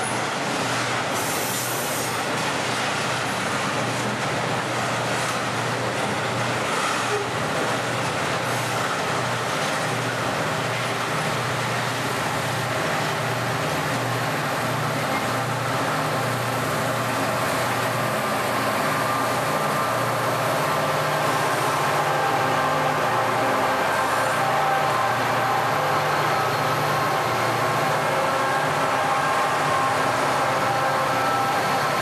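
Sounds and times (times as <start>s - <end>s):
diesel locomotives throbbing: 0.0s - 32.0s
train wagons on rails: 0.0s - 32.0s.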